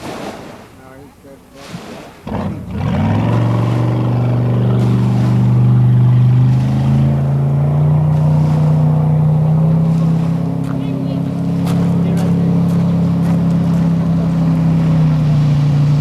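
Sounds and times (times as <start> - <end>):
boat engine running hard: 0.0 - 16.0.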